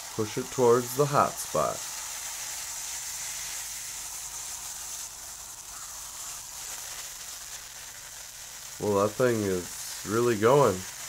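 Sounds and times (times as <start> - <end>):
sizzling hiss on hot griddle: 0.0 - 11.0.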